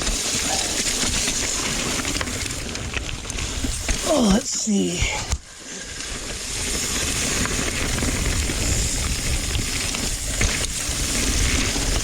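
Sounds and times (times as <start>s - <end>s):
bike tyre and wind noise: 0.0s - 12.0s.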